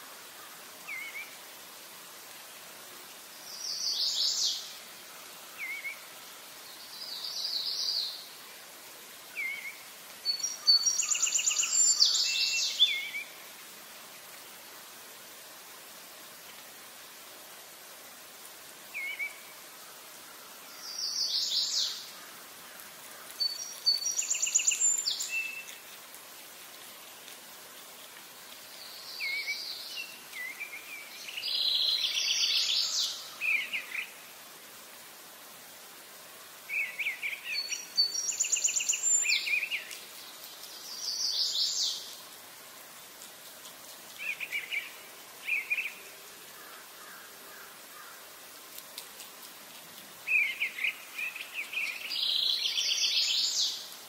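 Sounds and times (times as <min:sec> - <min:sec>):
faint hiss: 0:00.0 - 0:54.0.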